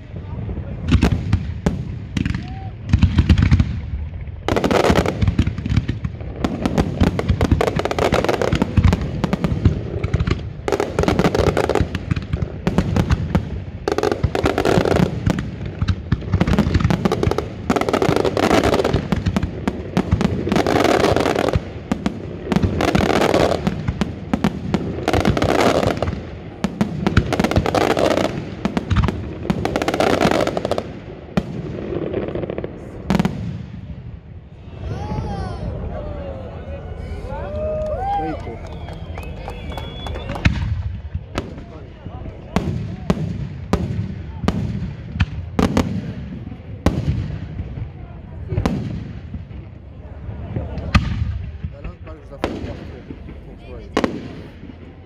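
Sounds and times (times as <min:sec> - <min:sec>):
firework crackle: 0:00.0 - 0:35.6, 0:37.6 - 0:55.0
fireworks bursting: 0:00.0 - 0:36.0, 0:36.8 - 0:55.0.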